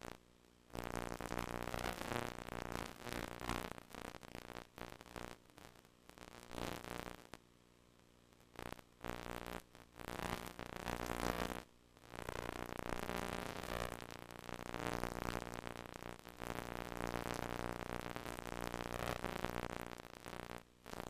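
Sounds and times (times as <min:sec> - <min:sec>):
harsh electrical buzz: 0:00.0 - 0:07.3, 0:08.5 - 0:21.0
tape hiss: 0:00.0 - 0:21.0.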